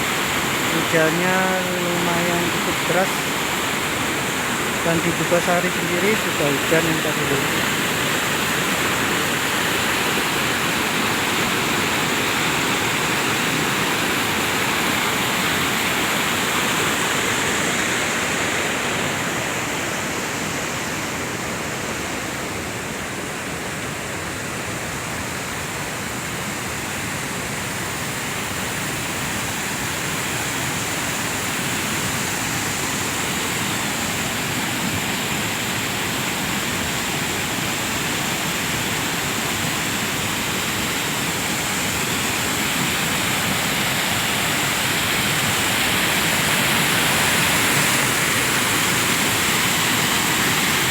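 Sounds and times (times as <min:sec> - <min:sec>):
volcanic mudflow rushing down river: 0:00.0 - 0:50.9.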